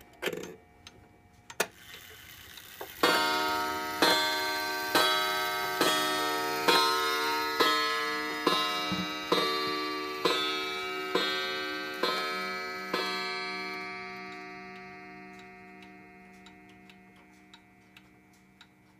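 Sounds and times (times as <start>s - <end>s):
clock ticking: 2.9s - 18.9s
clock gong strikes ringing: 3.0s - 18.9s.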